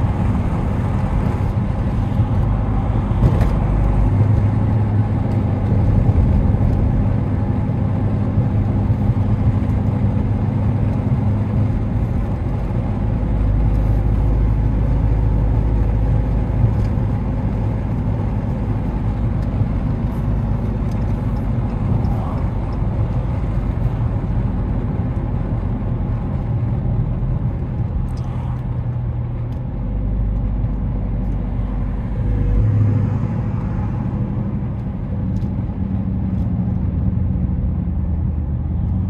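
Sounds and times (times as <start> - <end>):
car engine low rumble: 0.0 - 39.0
road noise: 0.0 - 39.0.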